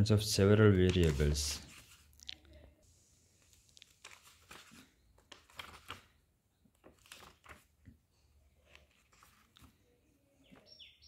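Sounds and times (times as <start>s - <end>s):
book pages turning: 0.7s - 2.4s, 3.3s - 10.7s.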